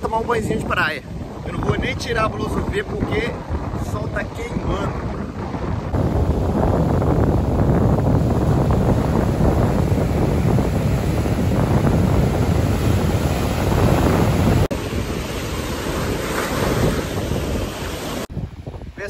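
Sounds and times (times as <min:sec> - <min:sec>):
ocean surf breaking: 0:00.0 - 0:18.4
wind buffeting microphone: 0:00.0 - 0:19.0.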